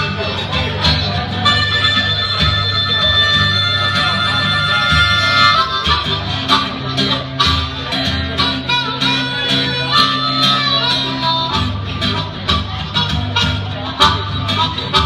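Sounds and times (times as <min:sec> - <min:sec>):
harmonica melody: 0:00.0 - 0:15.0
plucked guitar: 0:00.0 - 0:15.0
walking bass line: 0:00.0 - 0:15.0.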